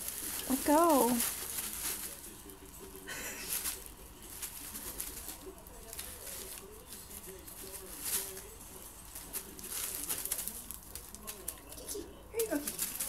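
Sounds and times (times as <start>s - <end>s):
bubble wrap crackling: 0.0s - 13.0s
feather toy rustling: 0.0s - 13.0s.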